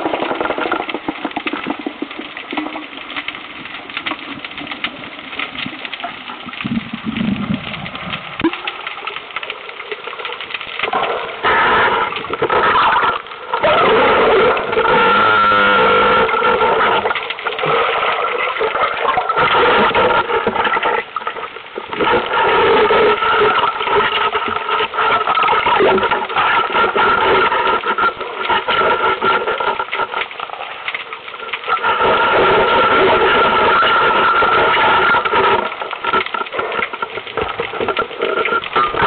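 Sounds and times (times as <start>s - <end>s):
constant whine: 0.0s - 39.0s.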